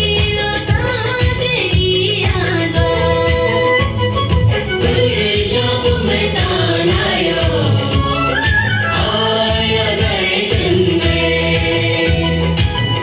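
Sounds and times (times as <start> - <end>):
dance song with singing: 0.0 - 13.0.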